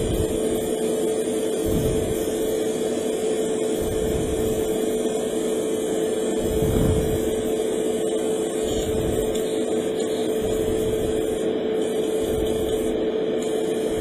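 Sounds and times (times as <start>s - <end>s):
extractor fan humming: 0.0s - 14.0s.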